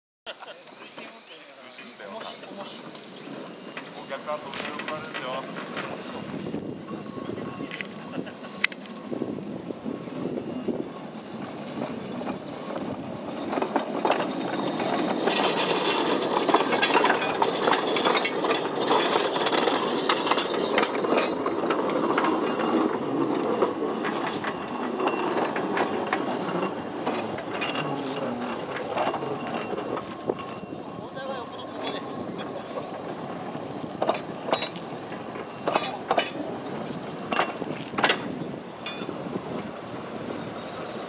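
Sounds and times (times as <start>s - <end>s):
steel wheels rolling on rails: 0.4s - 41.0s.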